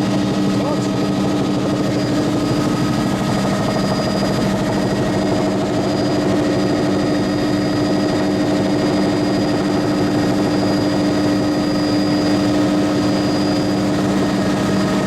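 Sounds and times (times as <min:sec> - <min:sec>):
helicopter drone in flight: 0:00.0 - 0:15.0.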